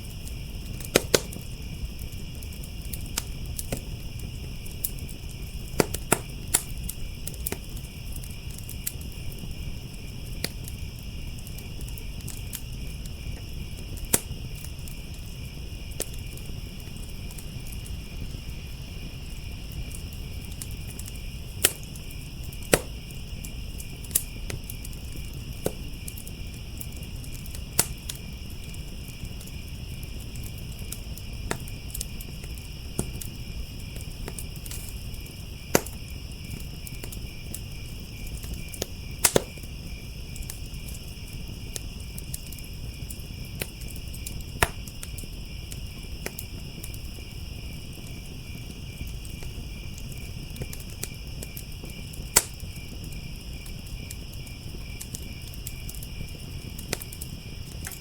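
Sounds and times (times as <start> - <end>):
crickets trilling: 0.0 - 58.0
sharp pops of fire: 0.0 - 58.0
wood fire crackling: 0.0 - 58.0.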